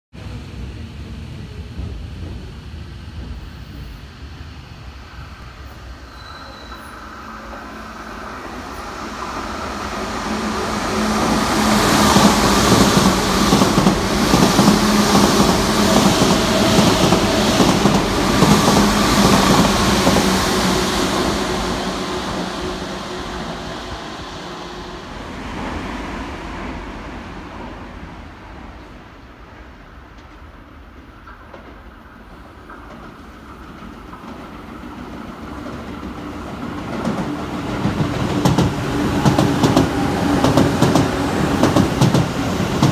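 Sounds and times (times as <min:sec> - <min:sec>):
electric train passing: 0:00.2 - 0:42.9.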